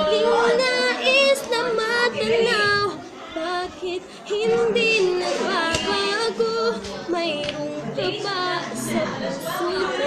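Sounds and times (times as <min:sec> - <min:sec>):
girl singing slow melody: 0:00.0 - 0:10.0.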